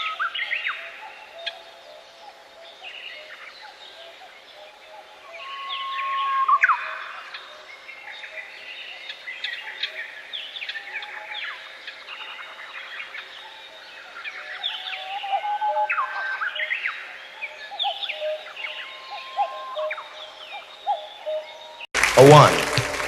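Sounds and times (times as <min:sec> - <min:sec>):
songbirds singing: 0:00.0 - 0:21.9.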